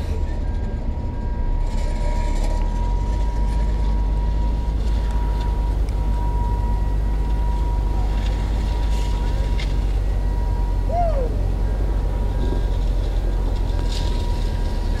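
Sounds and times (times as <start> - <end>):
diesel machinery rumbling: 0.0 - 15.0
thin steady whine: 0.0 - 15.0.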